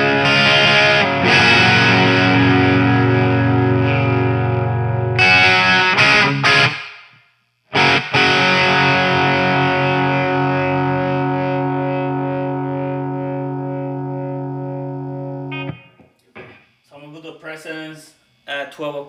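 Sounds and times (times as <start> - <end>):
overdriven electric guitar strumming: 0.0 - 16.8.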